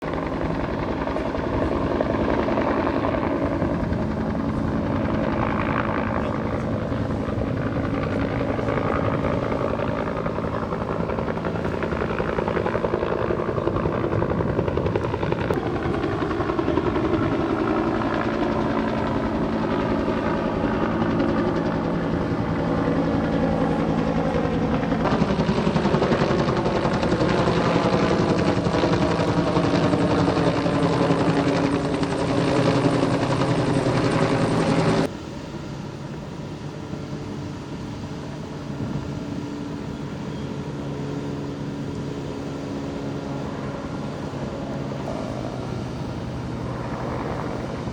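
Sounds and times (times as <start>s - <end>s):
helicopter rotor chop: 0.0s - 35.2s, 35.9s - 47.9s
helicopter engine whine: 0.0s - 47.9s.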